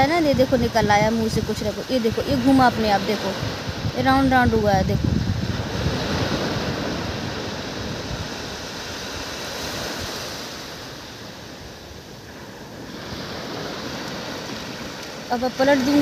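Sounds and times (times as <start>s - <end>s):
sea surf washing up: 0.0s - 16.0s
wind rumbling on microphone: 0.0s - 16.0s.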